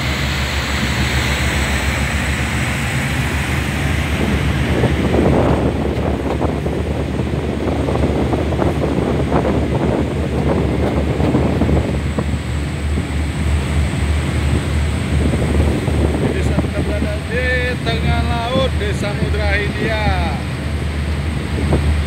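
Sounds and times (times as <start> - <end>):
rush of ship's wake: 0.0 - 22.0
wind buffeting microphone: 0.0 - 22.0.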